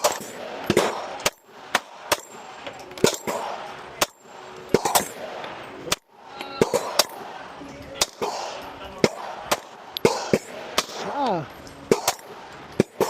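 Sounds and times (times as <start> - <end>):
pistol shots: 0.0 - 7.4, 8.0 - 11.2, 11.8 - 13.0.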